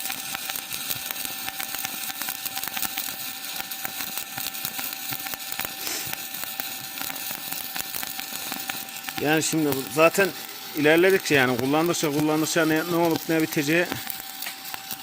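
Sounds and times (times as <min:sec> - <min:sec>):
welding arc crackling and popping: 0:00.0 - 0:15.0.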